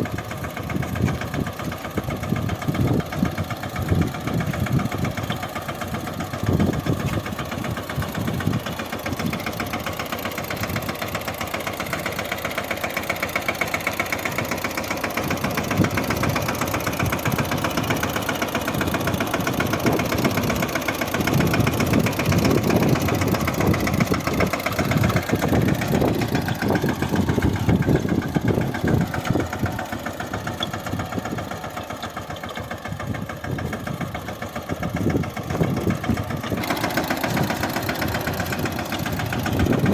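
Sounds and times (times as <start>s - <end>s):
tractor diesel engine knocking: 0.0s - 39.9s.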